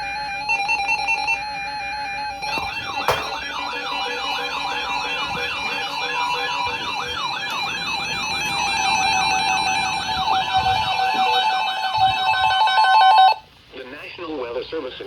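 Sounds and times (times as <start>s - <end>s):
siren yelping: 0.0s - 13.4s.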